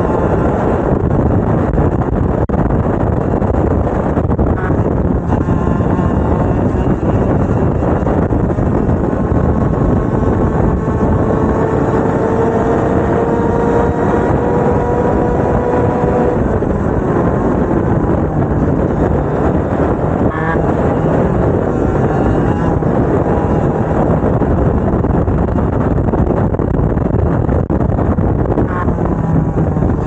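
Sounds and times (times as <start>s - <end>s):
kart engine accelerating: 0.0s - 30.0s.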